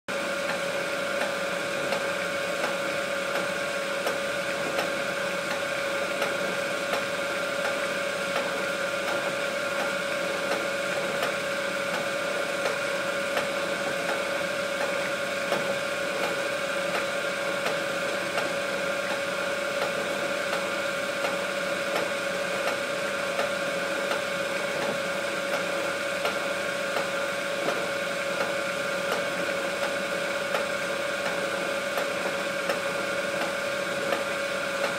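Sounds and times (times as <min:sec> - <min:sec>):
small machine humming: 0:00.1 - 0:34.9.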